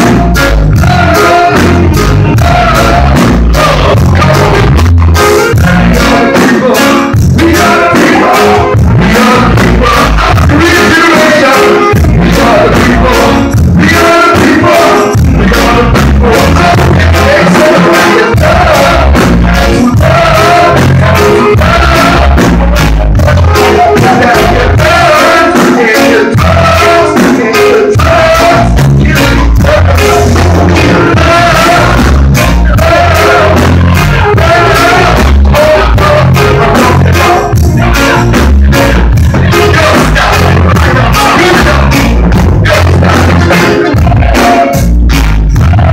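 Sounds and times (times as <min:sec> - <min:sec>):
lead vocal singing: 0:00.0 - 0:45.9
reggae band playing: 0:00.0 - 0:45.9.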